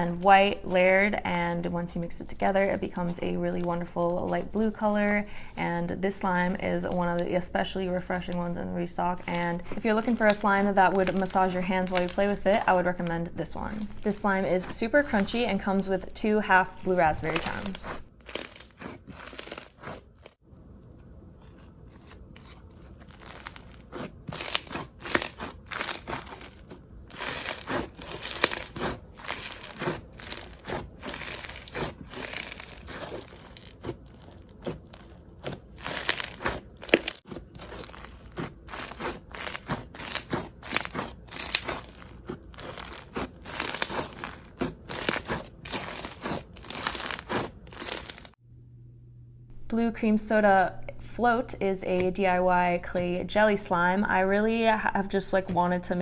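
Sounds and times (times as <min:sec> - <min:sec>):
slime beads crunching and crackling: 0:00.0 - 0:20.4, 0:21.9 - 0:48.4.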